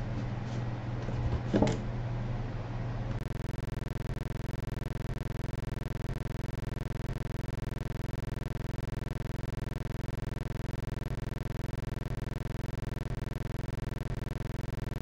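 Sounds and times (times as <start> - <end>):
low electrical buzz: 0.0 - 15.0.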